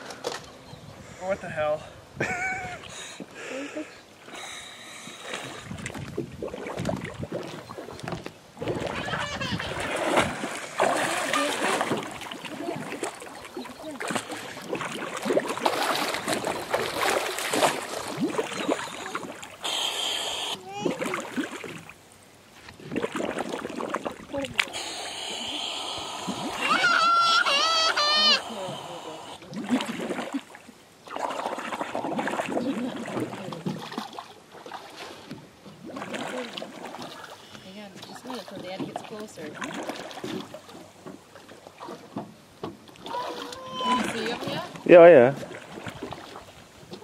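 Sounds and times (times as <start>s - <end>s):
water splashing and sloshing: 1.5s - 47.0s.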